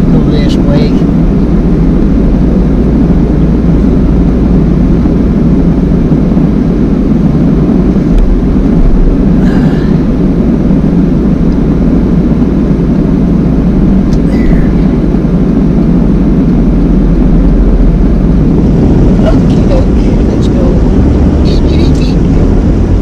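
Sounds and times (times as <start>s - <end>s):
van engine and road noise: 0.0s - 23.0s.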